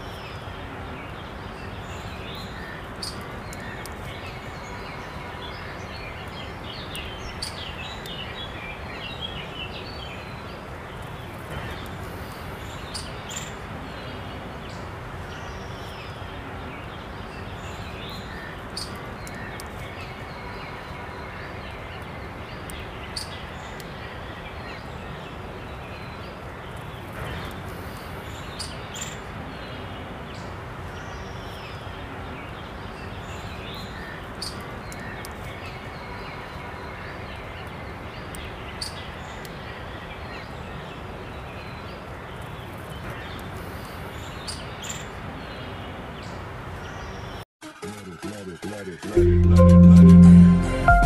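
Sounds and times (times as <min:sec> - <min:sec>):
steady outdoor hiss: 0:00.0 - 0:47.4.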